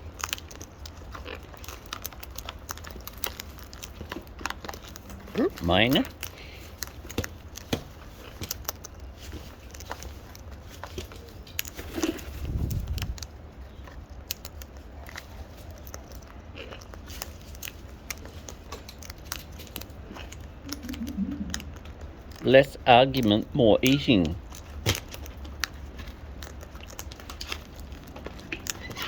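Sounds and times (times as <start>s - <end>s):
birds cracking seeds: 0.0s - 29.0s.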